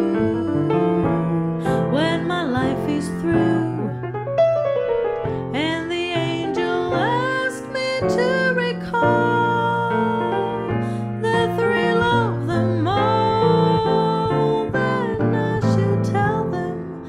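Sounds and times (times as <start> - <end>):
woman singing a slow ballad: 0.0 - 4.1, 5.5 - 17.0
grand piano: 0.0 - 17.0.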